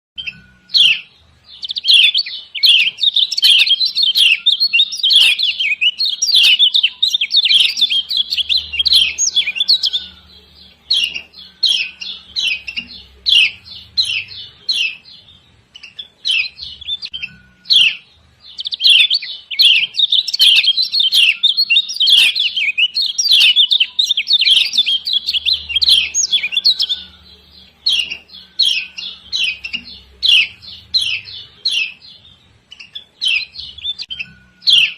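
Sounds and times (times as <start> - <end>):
bird giving rapid high chirps: 0.2 - 34.9.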